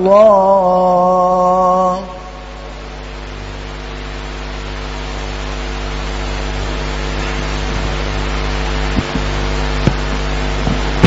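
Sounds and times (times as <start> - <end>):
electrical hum with hiss: 0.0 - 11.0.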